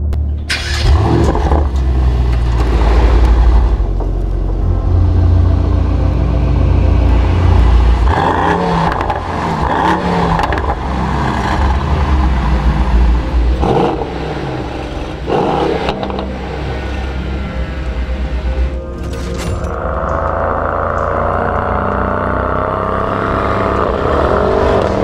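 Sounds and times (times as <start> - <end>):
car engine revving and accelerating: 0.5 - 18.7, 19.7 - 25.0.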